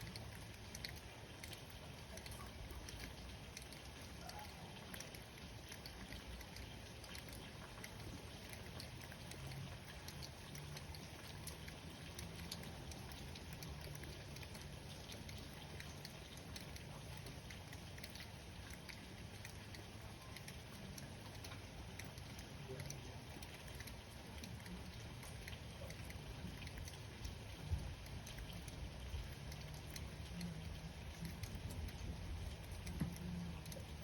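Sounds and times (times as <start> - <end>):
light rain patter: 0.0 - 34.0.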